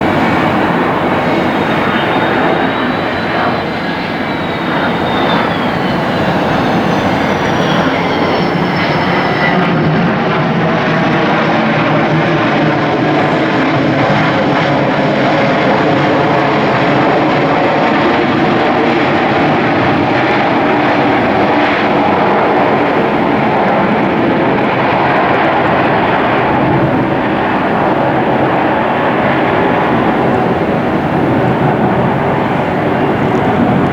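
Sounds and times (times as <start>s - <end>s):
thin whining tones: 0.0s - 9.8s, 14.6s - 33.9s
jet engine roar: 0.0s - 33.9s.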